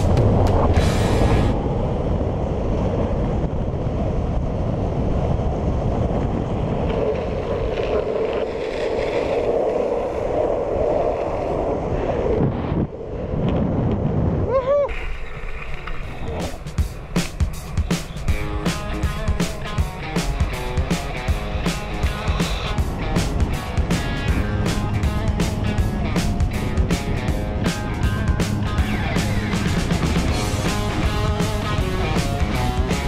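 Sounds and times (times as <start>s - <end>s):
wheels rolling over asphalt: 0.0s - 33.0s
wind on microphone: 0.0s - 33.0s.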